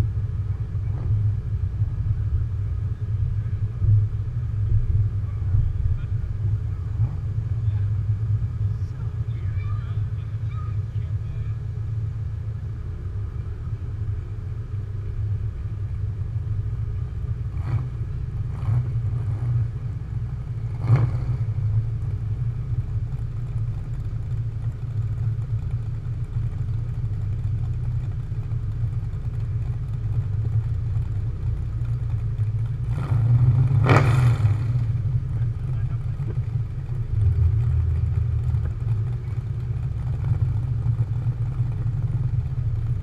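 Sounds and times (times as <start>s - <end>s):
car engine low drone: 0.0s - 43.0s.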